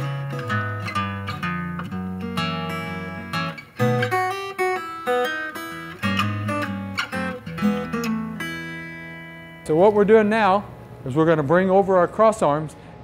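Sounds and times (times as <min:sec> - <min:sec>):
acoustic guitar music: 0:00.0 - 0:10.9.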